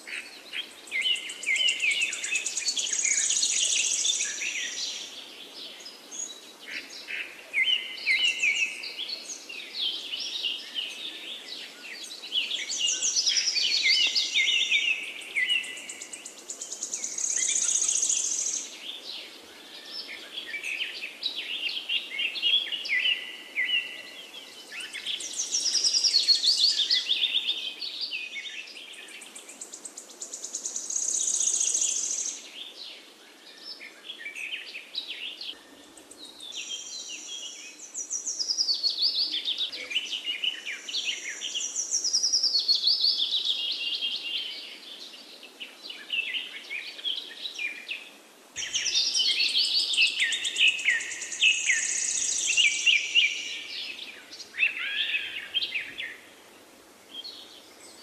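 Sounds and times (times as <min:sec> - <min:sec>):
faint steady background hiss: 0:00.0 - 0:58.0
songbirds singing: 0:00.0 - 0:58.0.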